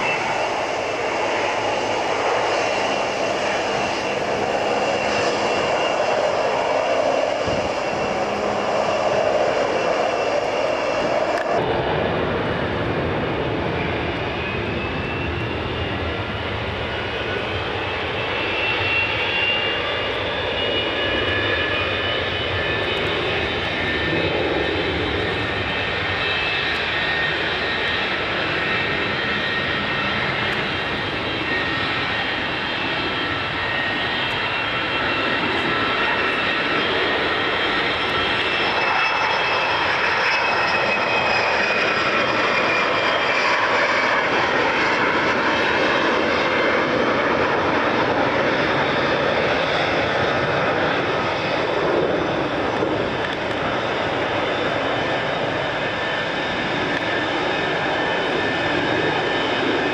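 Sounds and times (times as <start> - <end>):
jet airliner engines whining: 0.0 - 59.9.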